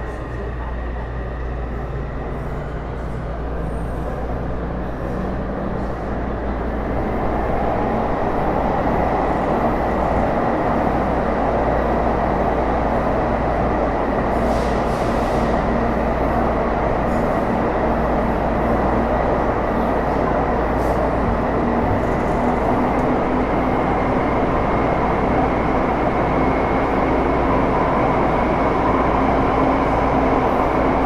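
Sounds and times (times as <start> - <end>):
train car rumbling: 0.0 - 31.0.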